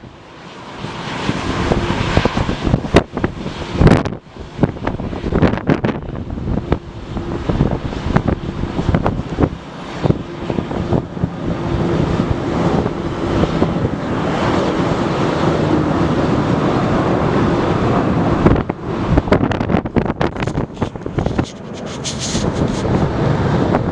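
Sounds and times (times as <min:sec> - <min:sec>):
jet airliner engines: 0:00.0 - 0:23.9
wind buffeting microphone: 0:00.0 - 0:23.9.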